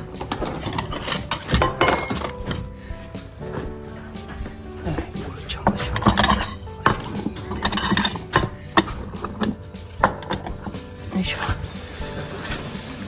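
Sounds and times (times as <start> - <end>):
dishes clinking and knocking: 0.0 - 2.8, 3.4 - 13.0
faint background music: 0.0 - 13.0.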